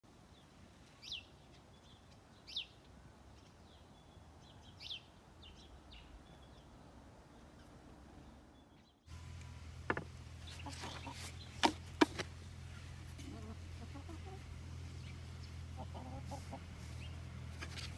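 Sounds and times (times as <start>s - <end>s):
faint low background noise: 0.0s - 17.6s
birds chirping: 0.2s - 17.9s.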